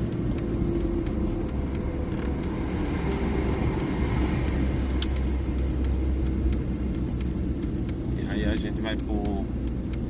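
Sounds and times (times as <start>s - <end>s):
car engine and road noise: 0.0s - 10.0s
light clicks: 0.0s - 10.0s.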